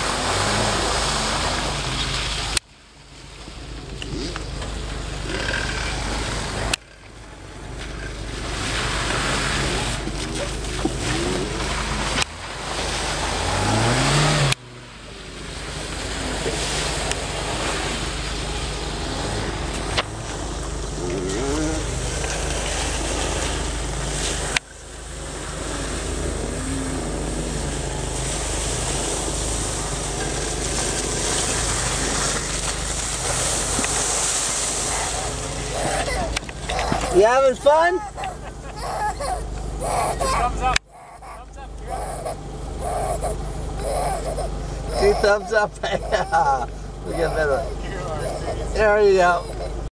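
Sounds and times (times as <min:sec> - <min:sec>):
car engine revving: 0:00.0 - 0:02.6, 0:03.5 - 0:49.9
tyres in mud: 0:00.0 - 0:49.9.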